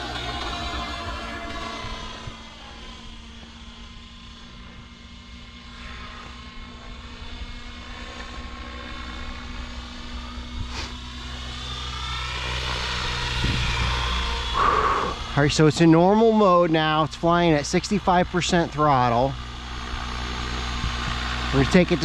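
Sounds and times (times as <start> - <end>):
helicopter rotor and motor whirring: 0.0 - 22.0.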